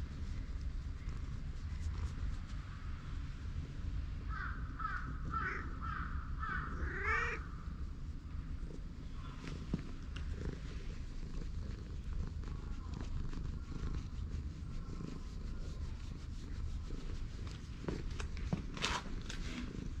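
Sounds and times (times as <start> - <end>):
cat purring: 0.0 - 3.9, 6.8 - 20.0.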